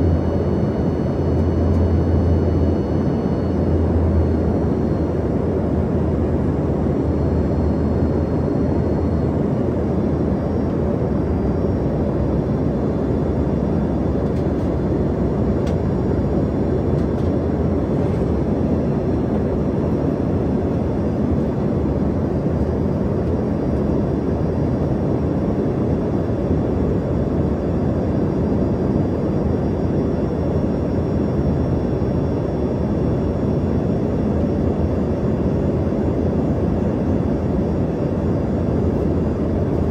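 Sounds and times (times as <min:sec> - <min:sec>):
faint high whine: 0:00.0 - 0:39.9
jet cabin drone: 0:00.0 - 0:39.9.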